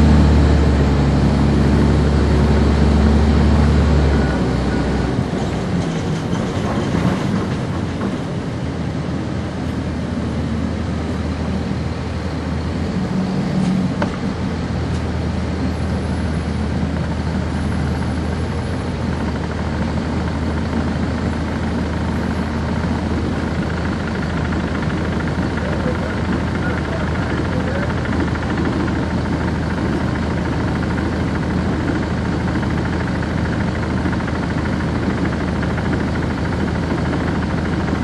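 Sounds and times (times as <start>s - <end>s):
diesel bus engine running: 0.0s - 38.0s.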